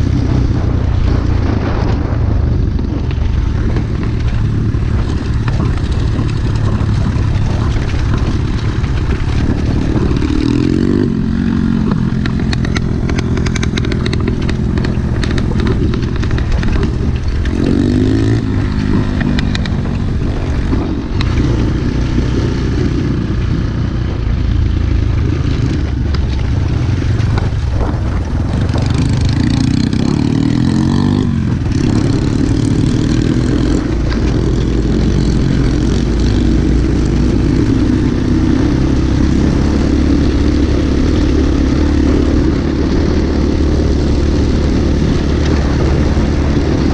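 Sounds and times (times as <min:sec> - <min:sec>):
pit bike engine revving: 0:00.0 - 0:46.9.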